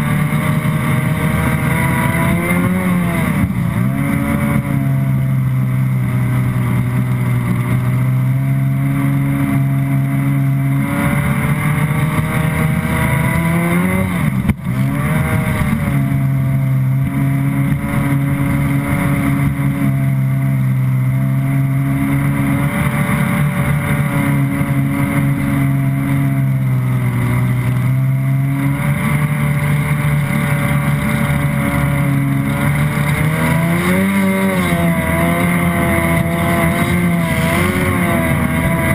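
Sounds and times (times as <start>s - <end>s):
jet ski engine revving: 0.0s - 38.9s.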